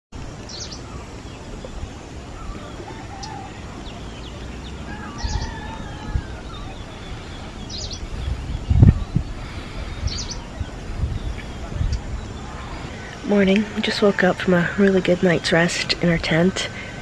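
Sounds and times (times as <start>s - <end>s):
steady low rumble: 0.2s - 17.0s
high chirping bird call: 0.4s - 15.9s.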